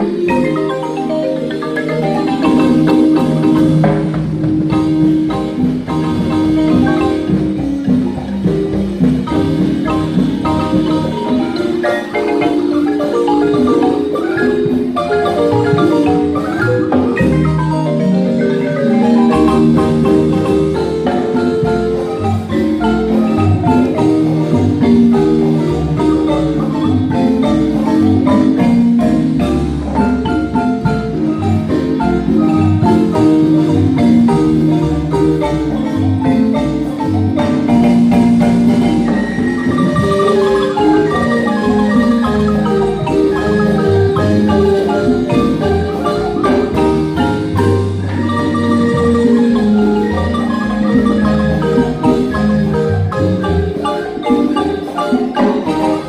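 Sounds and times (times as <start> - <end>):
marimba ensemble playing: 0.0 - 56.0.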